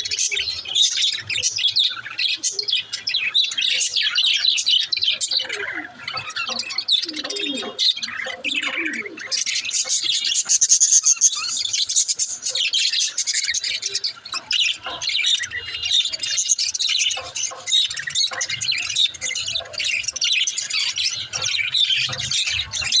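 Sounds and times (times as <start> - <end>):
budgerigars chattering: 0.0 - 23.0.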